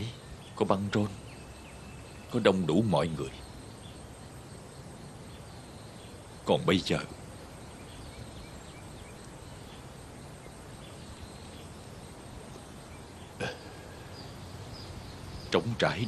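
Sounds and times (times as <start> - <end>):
faint insect chirps: 0.0 - 16.0
steady hiss: 0.0 - 16.0.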